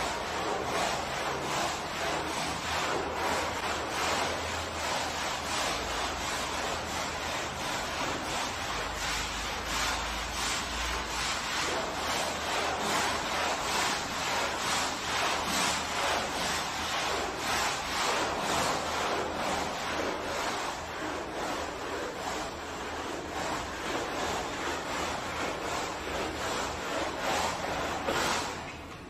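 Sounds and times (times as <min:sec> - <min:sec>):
brush scrubbing wet carpet: 0:00.0 - 0:29.0.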